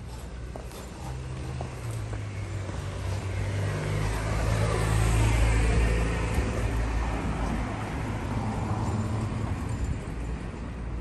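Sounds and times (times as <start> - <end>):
low traffic rumble: 0.0 - 11.0
vehicle passing by: 0.4 - 9.7.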